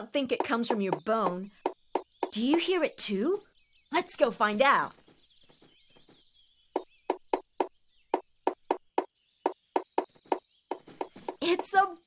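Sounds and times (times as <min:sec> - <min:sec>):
woodpecker pecking wood: 0:00.0 - 0:11.8
faint birdsong chirps: 0:00.0 - 0:12.0.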